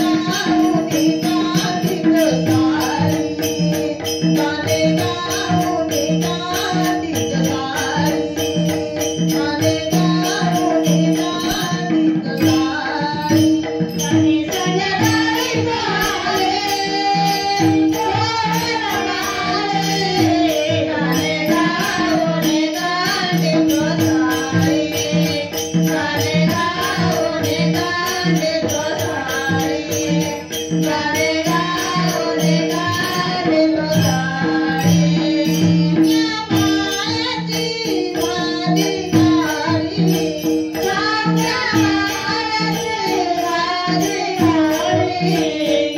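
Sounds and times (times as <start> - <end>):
group singing devotional song: 0.0 - 45.9
rhythmic hand percussion: 0.0 - 45.9.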